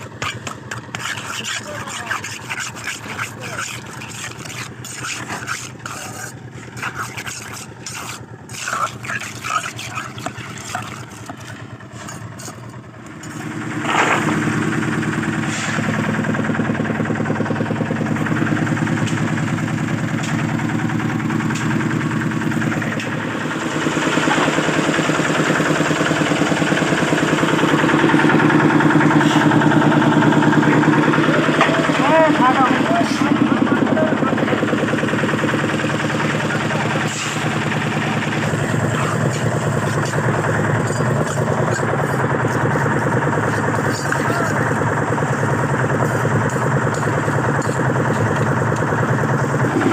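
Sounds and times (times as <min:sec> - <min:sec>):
engine starting and running: 0:00.0 - 0:49.9.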